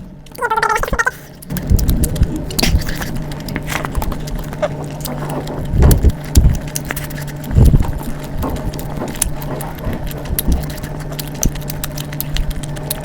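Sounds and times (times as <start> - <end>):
chewing with wet mouth clicks: 0.0 - 13.0
low hum: 0.0 - 13.0.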